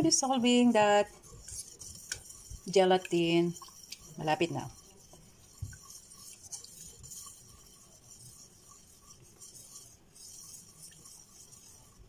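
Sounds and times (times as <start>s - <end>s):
faint whisking in a saucepan: 0.0s - 12.0s.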